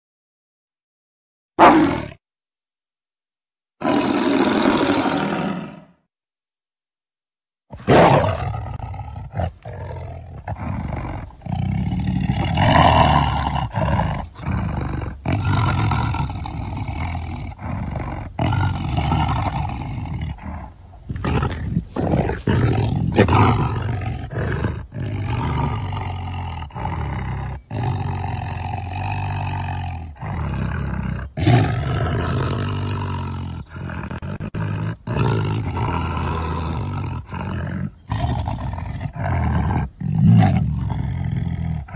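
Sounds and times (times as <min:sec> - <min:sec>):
tiger roaring: 0:01.6 - 0:02.2, 0:03.8 - 0:06.0, 0:07.7 - 0:41.9.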